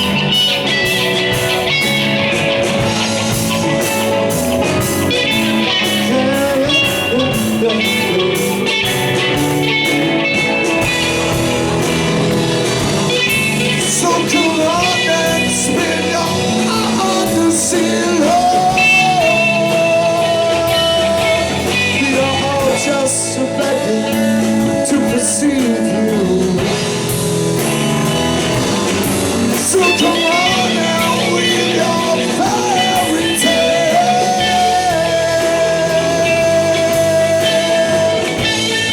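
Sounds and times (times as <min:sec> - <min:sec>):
lead guitar line bending: 0:00.0 - 0:38.9
rock band jamming: 0:00.0 - 0:38.9.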